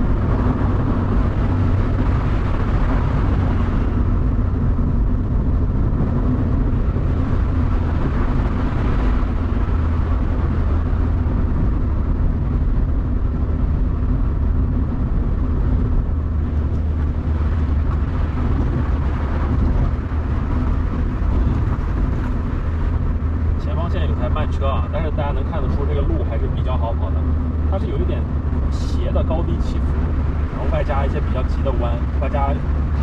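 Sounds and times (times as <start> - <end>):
car engine drone: 0.0 - 33.0
road noise: 0.0 - 33.0.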